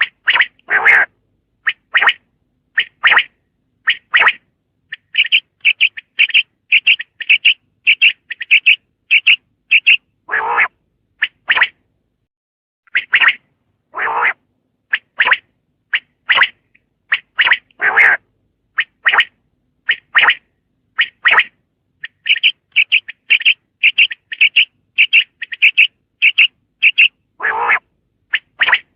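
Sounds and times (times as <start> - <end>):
quail calling: 0.0 - 2.2, 2.8 - 11.8, 12.9 - 18.2, 18.8 - 20.4, 21.0 - 28.9.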